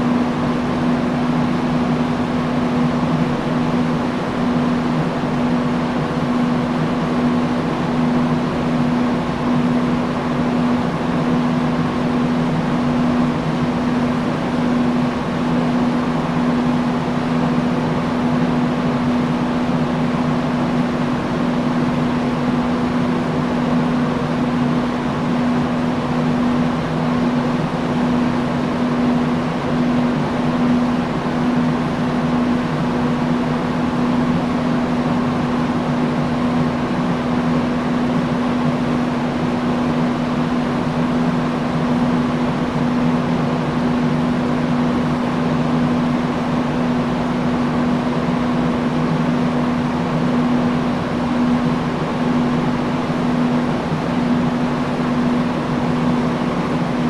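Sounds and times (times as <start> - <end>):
low motor hum: 0.0 - 57.0
rush of air from fan: 0.0 - 57.0.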